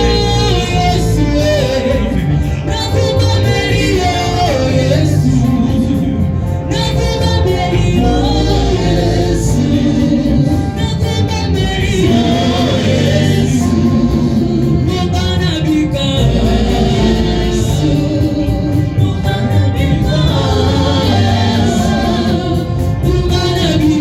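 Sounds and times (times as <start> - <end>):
gospel choir singing: 0.0 - 24.0
instrumental backing with bass: 0.0 - 24.0.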